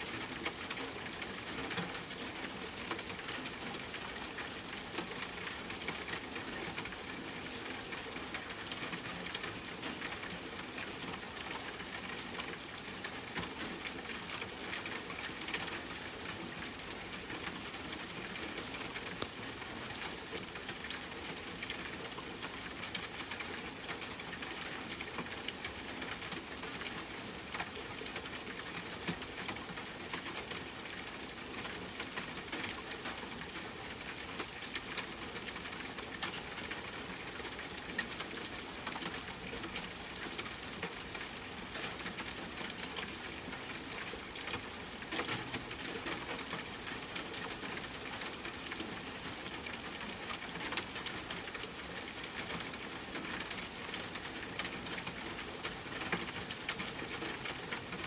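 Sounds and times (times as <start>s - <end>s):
rain drops ticking on hard surface: 0.0s - 58.0s.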